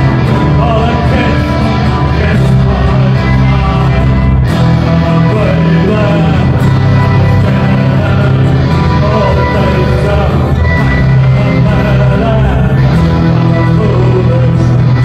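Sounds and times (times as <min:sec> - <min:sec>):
folk band playing live: 0:00.0 - 0:15.0
person singing: 0:00.0 - 0:15.0.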